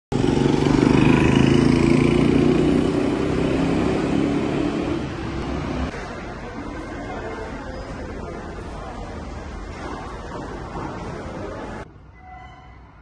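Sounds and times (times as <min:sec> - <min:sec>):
street noise: 0:00.1 - 0:13.0.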